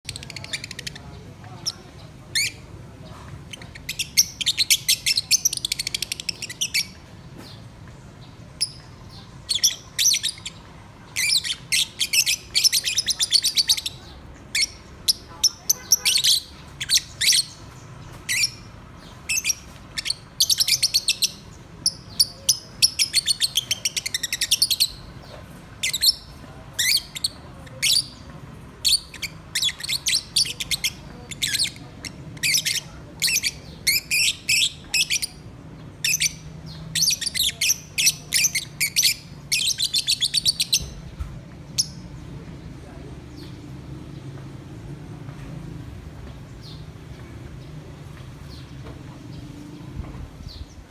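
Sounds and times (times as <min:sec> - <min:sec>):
lovebirds chirping: 0:00.0 - 0:50.9.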